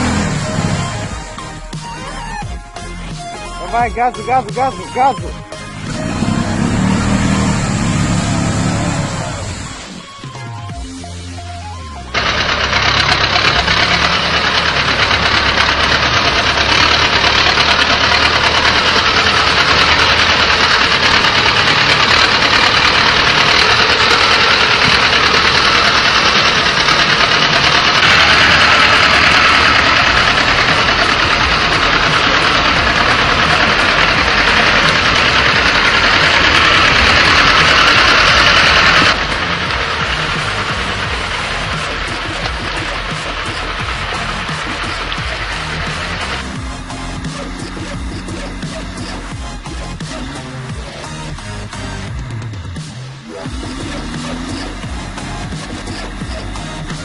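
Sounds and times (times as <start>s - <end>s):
heavy vehicle engine running: 0.0s - 57.0s.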